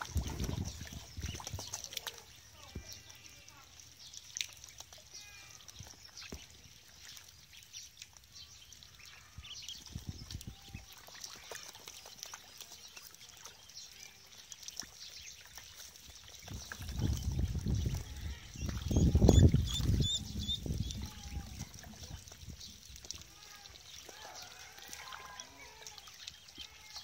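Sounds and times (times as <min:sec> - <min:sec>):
ducklings peeping: 0:00.0 - 0:27.0
small splashes in water: 0:00.0 - 0:27.0.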